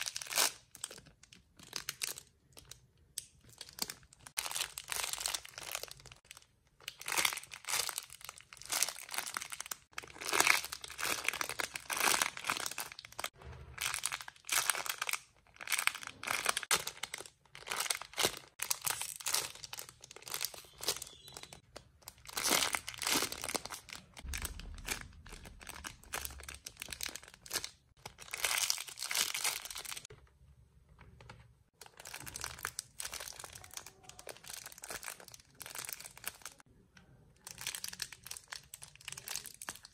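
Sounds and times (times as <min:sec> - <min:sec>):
plastic packaging crinkling: 0:00.0 - 0:30.1, 0:31.8 - 0:36.6, 0:37.4 - 0:39.9.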